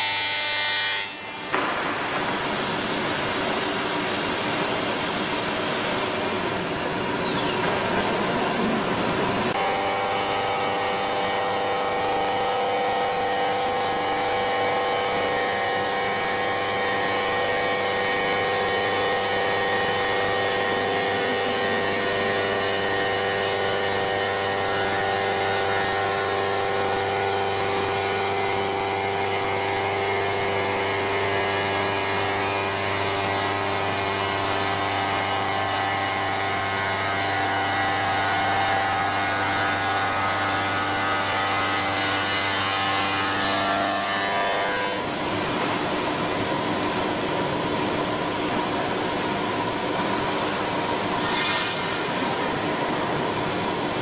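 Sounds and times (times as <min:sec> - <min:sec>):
stone router machine whine: 0:00.0 - 0:54.0.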